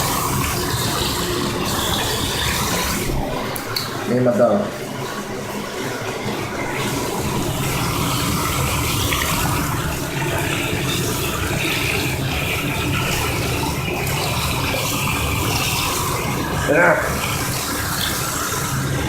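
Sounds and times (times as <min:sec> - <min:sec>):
tap water pouring into bath: 0:00.0 - 0:19.0.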